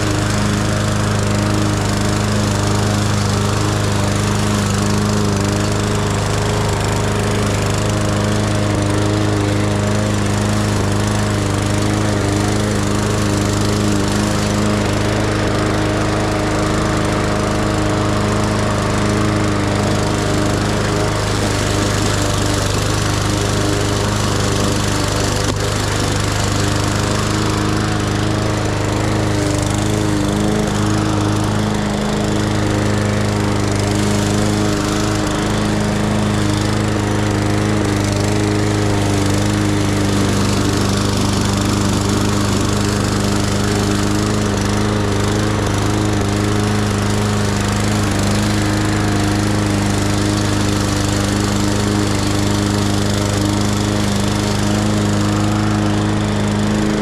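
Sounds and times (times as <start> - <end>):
lawn mower engine cutting grass: 0.0 - 57.0.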